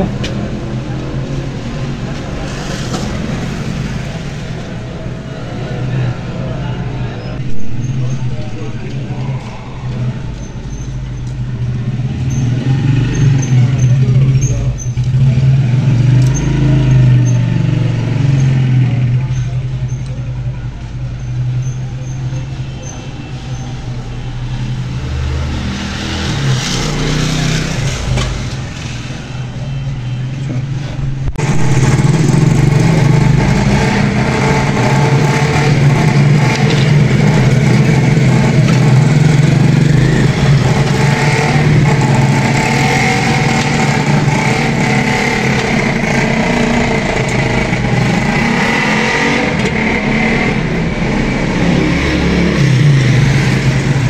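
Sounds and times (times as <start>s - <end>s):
low mechanical drone: 0.0s - 54.0s
noise: 0.0s - 54.0s.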